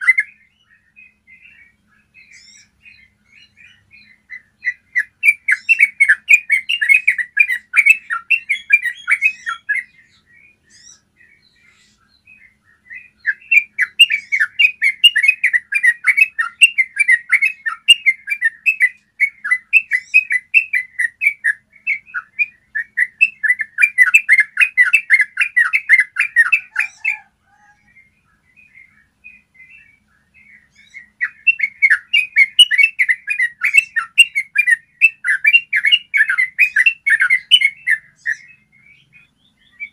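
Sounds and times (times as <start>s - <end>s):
bird singing rapid chattering notes: 0.0s - 39.9s.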